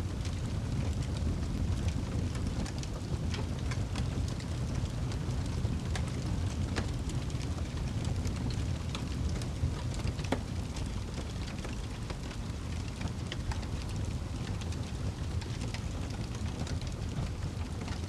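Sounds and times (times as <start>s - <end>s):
wood fire crackling and popping: 0.1s - 18.0s.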